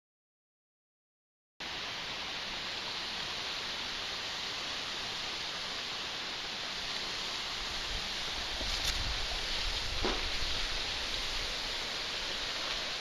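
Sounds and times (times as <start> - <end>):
steady rushing hiss: 1.6 - 13.0.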